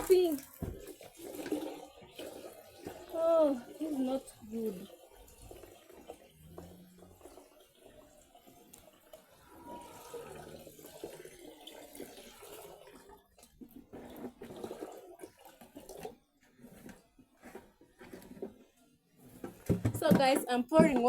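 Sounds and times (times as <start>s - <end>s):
water pouring and splashing: 0.0s - 21.0s.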